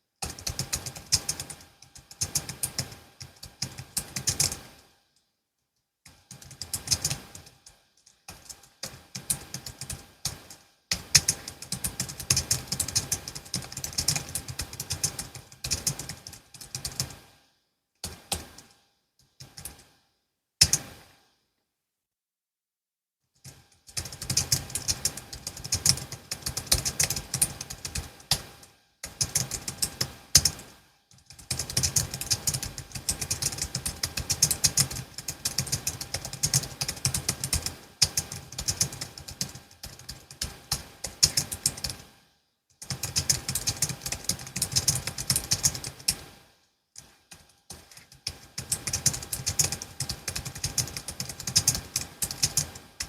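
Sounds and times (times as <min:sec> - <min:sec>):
fast keyboard typing clicks: 0:00.2 - 0:04.8, 0:06.1 - 0:17.2, 0:18.0 - 0:18.7, 0:19.4 - 0:19.9, 0:20.6 - 0:21.0, 0:23.4 - 0:42.1, 0:42.8 - 0:46.4, 0:47.0 - 0:53.0.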